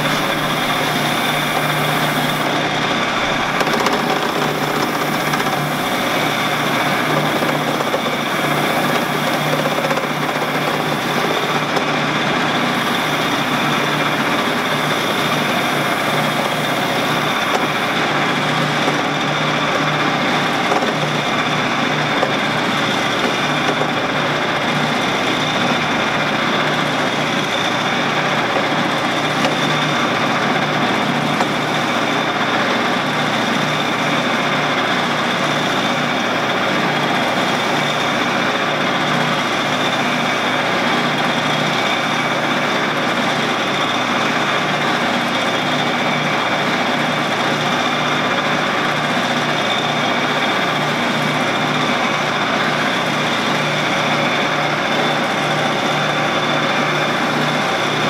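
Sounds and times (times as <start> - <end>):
lathe motor whining: 0.0 - 58.0.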